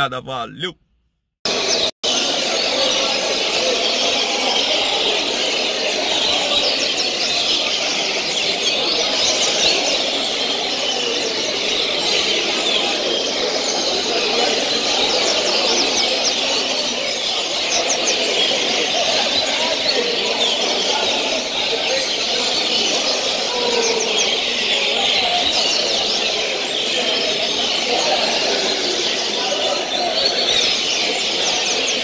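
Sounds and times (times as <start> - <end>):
birds chirping and trilling: 1.5 - 32.0.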